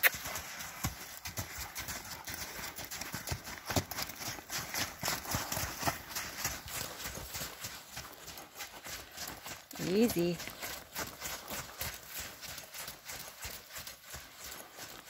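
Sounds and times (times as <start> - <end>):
horse hoofbeats on mud: 0.0 - 15.0.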